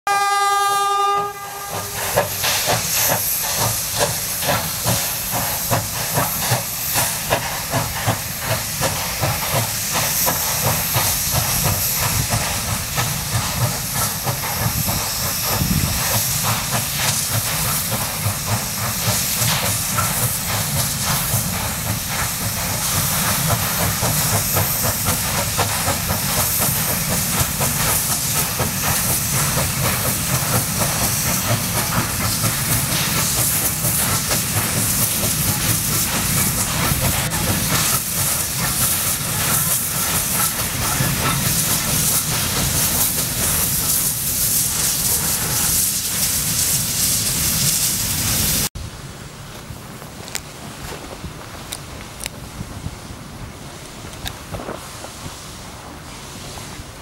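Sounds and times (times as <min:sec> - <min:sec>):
steam locomotive exhaust beats: 0:00.1 - 0:49.2
steam hissing: 0:00.8 - 0:48.8, 0:52.4 - 0:57.0.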